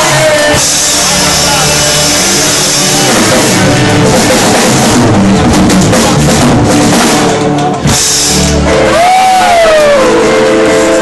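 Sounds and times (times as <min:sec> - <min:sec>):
band music with drums and guitar: 0:00.0 - 0:11.0.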